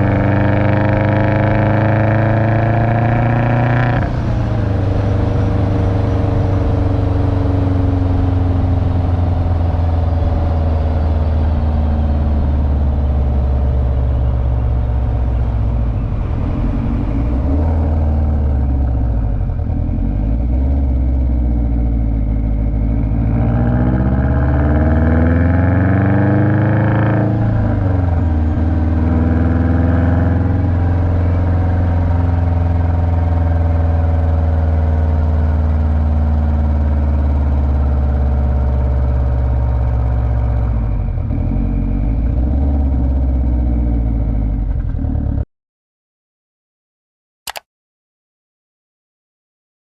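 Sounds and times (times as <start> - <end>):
car engine revving: 0.0 - 44.5
road noise: 0.0 - 45.4.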